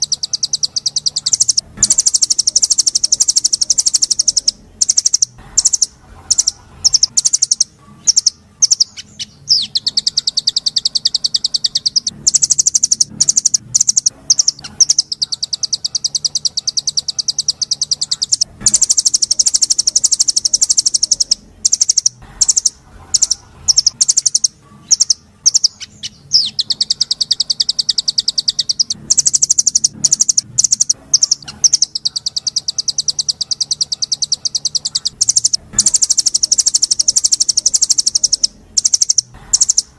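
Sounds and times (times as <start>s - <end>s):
songbird singing harsh trills: 0.0s - 39.9s.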